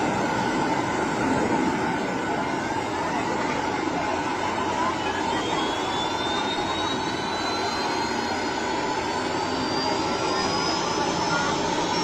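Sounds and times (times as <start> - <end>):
jet engine running: 0.0 - 12.0.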